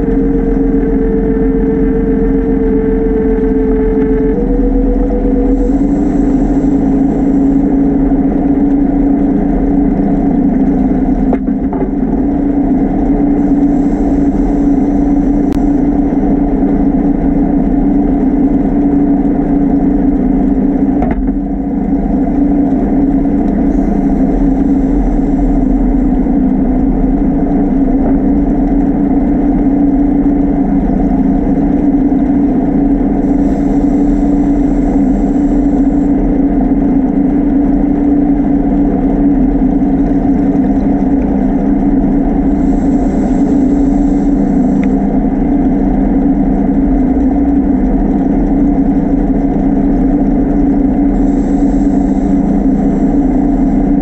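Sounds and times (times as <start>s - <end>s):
exhaled bubbles hissing: 0.0s - 19.9s, 22.0s - 46.7s, 50.6s - 54.0s
underwater electric motor hum: 0.0s - 54.0s.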